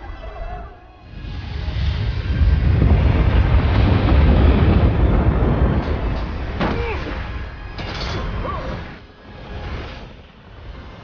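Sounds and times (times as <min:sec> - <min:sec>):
avalanche rumble: 0:00.0 - 0:11.0
film score music: 0:00.0 - 0:11.0.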